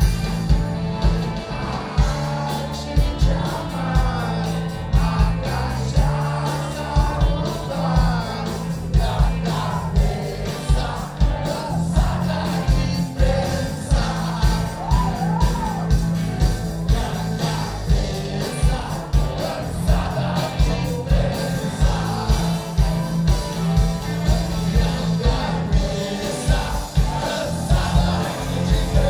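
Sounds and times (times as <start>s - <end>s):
bass guitar: 0.0s - 29.0s
electric guitars: 0.0s - 29.0s
heavy drum beat: 0.0s - 29.0s
man singing: 1.4s - 16.0s, 16.8s - 29.0s.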